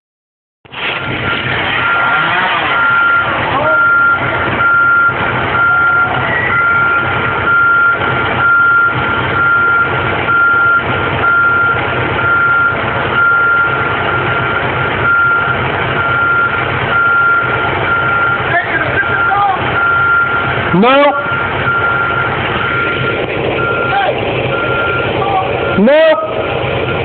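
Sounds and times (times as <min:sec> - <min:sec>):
heavy engine running: 0:00.7 - 0:27.0
reversing alarm beeping: 0:01.8 - 0:27.0.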